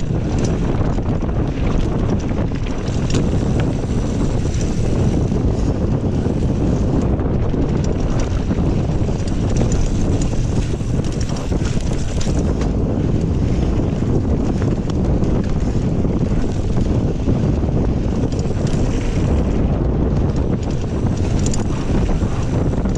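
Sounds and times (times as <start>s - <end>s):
bike ticks and rattles: 0.0s - 22.9s
wind buffeting microphone: 0.0s - 22.9s.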